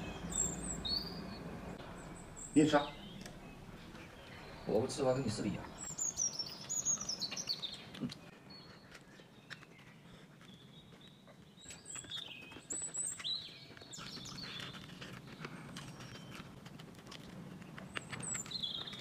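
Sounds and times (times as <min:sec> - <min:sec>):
birds chirping: 0:00.0 - 0:19.0
chewing and crunching: 0:03.0 - 0:19.0.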